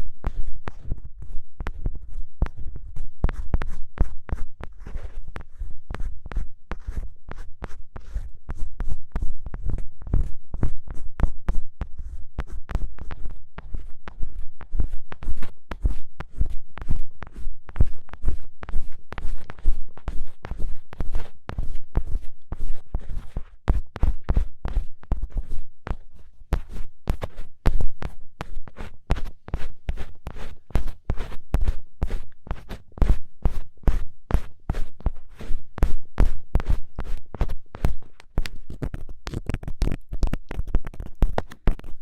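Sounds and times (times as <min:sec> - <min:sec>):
ear pick scratching with thuds: 0:00.0 - 0:42.0.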